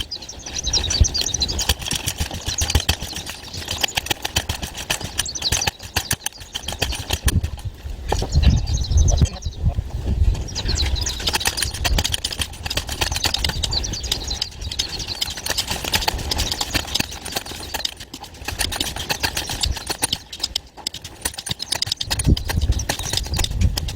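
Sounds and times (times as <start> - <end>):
compacting tool rattling: 0.9 - 7.7, 11.1 - 23.9.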